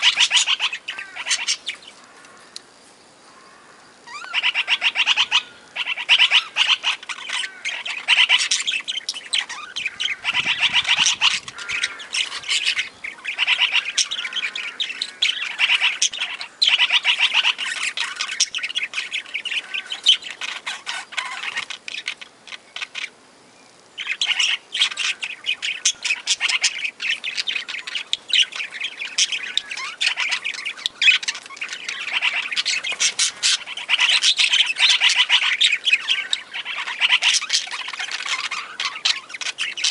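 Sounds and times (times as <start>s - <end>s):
parakeets chattering and squawking: 0.0s - 39.9s.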